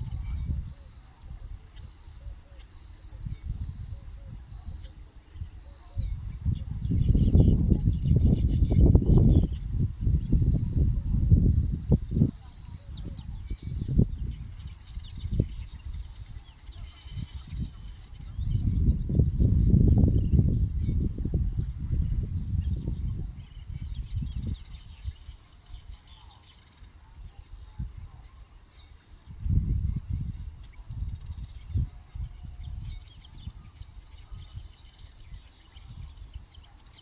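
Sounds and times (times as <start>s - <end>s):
wind buffeting microphone: 0.0s - 26.1s, 29.1s - 36.8s
high-pitched insect chirping: 0.0s - 37.0s.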